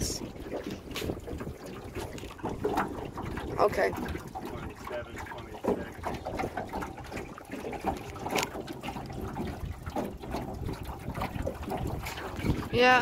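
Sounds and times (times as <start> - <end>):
water lapping against metal hull: 0.0 - 13.0.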